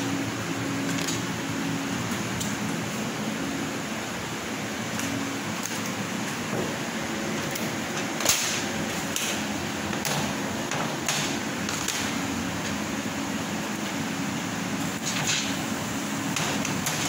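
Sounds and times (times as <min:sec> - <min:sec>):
laser cutter humming: 0:00.0 - 0:17.0.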